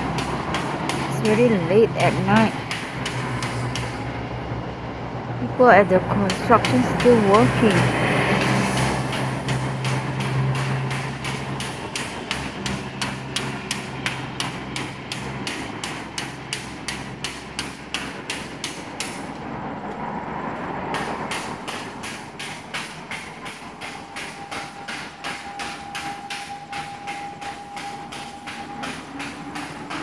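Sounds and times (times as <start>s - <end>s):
rapid hard knocking: 0.0s - 4.0s, 6.0s - 19.4s, 20.9s - 30.0s.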